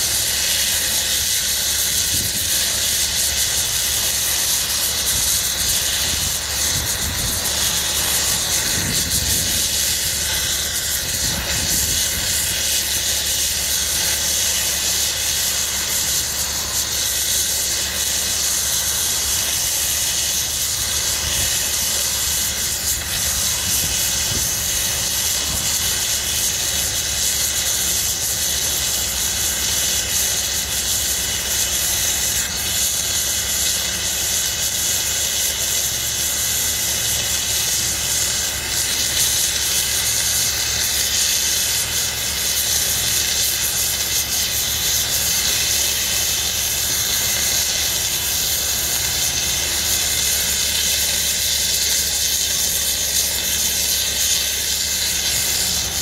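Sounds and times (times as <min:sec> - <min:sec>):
gas cutting torch hissing: 0:00.0 - 0:56.0.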